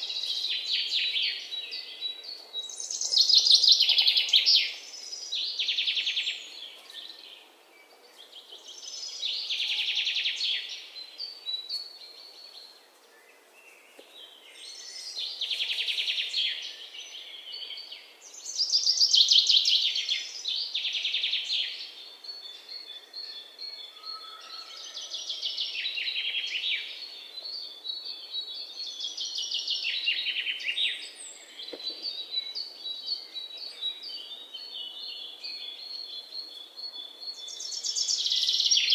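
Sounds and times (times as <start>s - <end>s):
quiet bird chirps: 0.0s - 38.9s.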